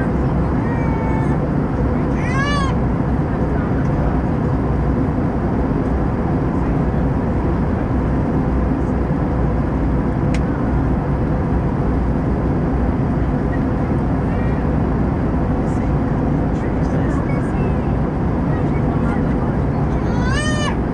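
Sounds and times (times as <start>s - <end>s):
aircraft cabin engine and airflow hum: 0.0s - 20.9s.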